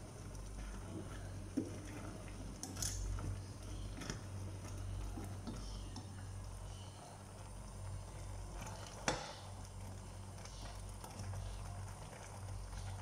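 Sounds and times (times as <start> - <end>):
faint stirring: 0.0 - 13.0
low steady hum: 0.0 - 13.0
sauce simmering in a pot: 0.0 - 13.0.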